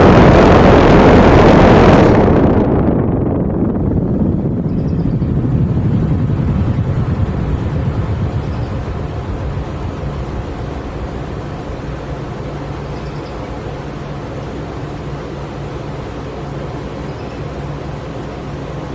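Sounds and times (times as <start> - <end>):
heat pump whooshing: 0.0 - 18.9
low hum: 0.0 - 18.9.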